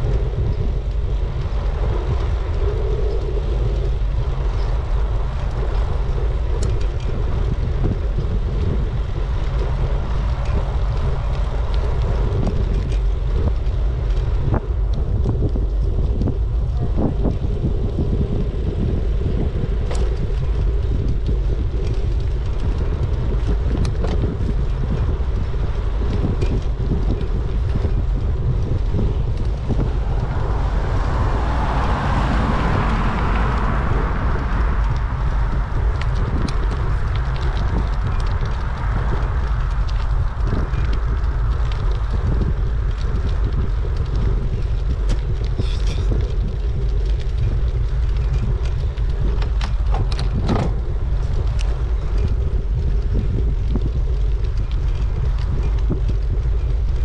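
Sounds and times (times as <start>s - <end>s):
bicycle clicks and rattles: 0.0s - 57.0s
wind buffeting microphone: 0.0s - 57.0s.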